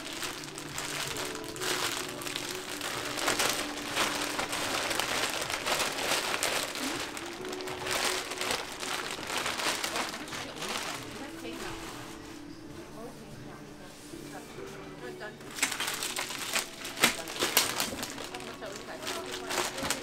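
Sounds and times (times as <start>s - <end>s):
music playing: 0.0s - 20.0s.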